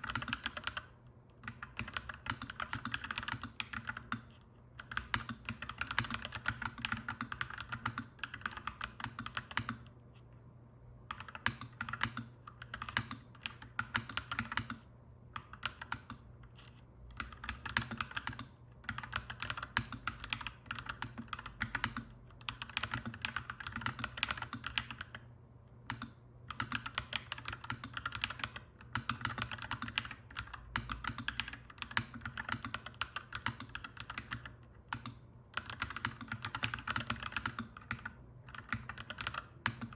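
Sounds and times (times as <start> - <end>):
mechanical keyboard typing: 0.0 - 9.9, 11.1 - 16.3, 17.1 - 25.2, 25.9 - 39.9.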